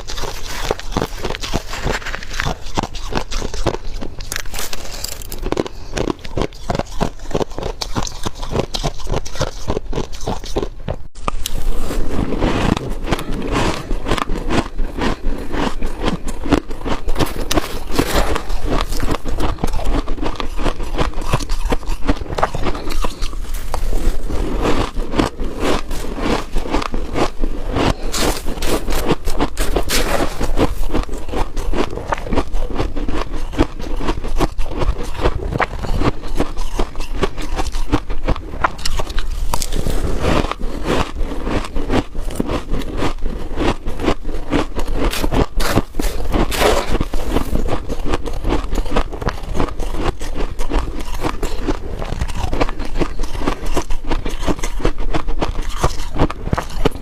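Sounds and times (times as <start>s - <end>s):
frost being chewed: 0.0s - 57.0s.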